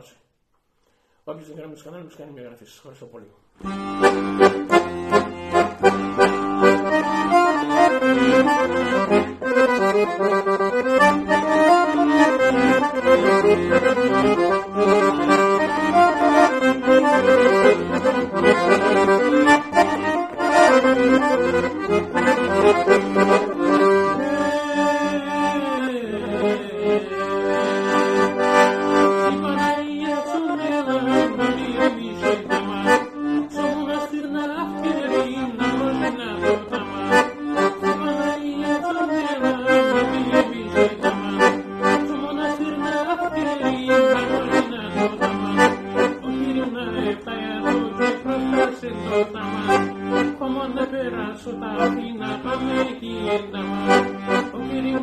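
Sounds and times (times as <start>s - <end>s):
accordion playing a tune: 3.6s - 55.0s.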